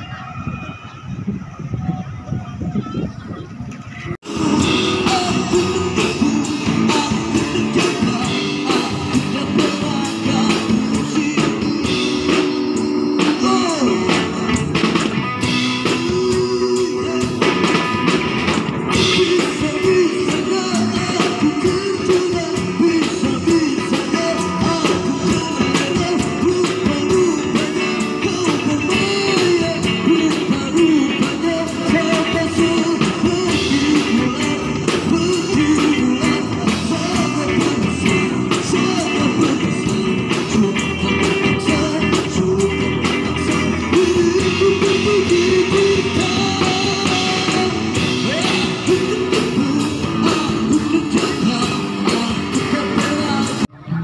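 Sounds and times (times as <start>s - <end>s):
drums: 0.0s - 54.0s
bass guitar: 3.8s - 54.0s
man singing into microphone: 4.2s - 18.2s, 18.8s - 54.0s.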